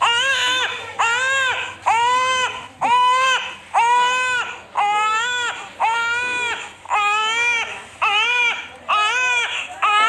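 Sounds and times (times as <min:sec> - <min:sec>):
baby crying: 0:00.0 - 0:10.0.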